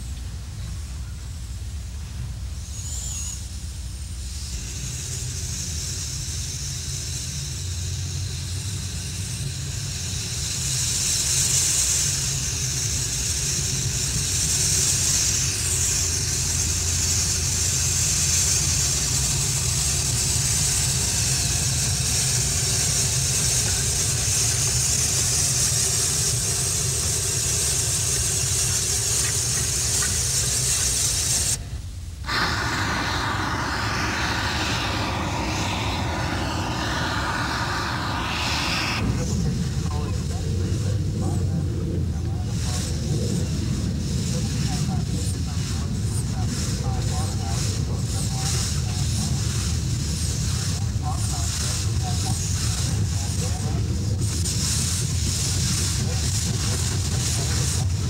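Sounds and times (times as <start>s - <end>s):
steam locomotive hissing: 0.0s - 31.6s, 32.2s - 41.7s, 42.3s - 58.0s.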